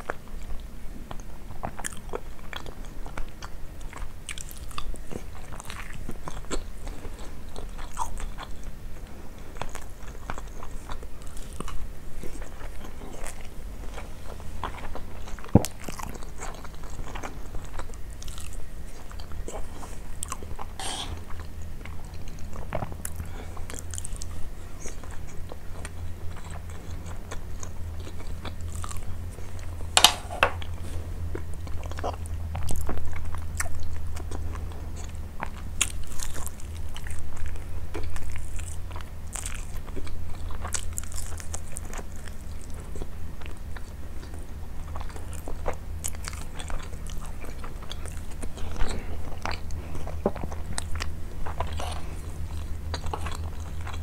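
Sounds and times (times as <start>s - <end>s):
chewing with clicks and crunches: 0.0s - 54.0s
steady low hum: 0.0s - 54.0s.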